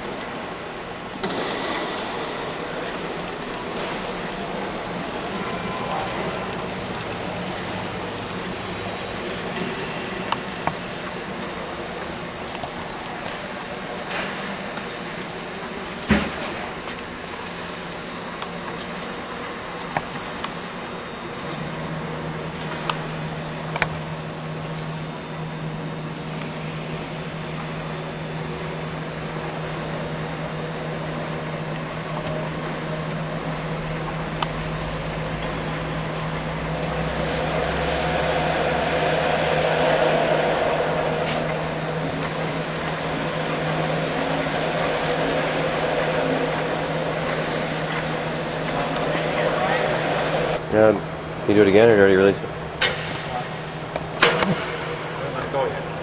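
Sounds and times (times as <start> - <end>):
aircraft tug humming: 0.0 - 56.0.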